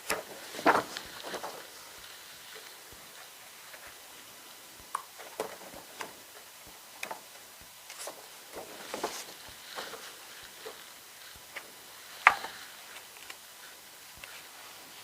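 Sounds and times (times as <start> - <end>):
card and paper rustling: 0.0 - 4.2, 5.1 - 15.0.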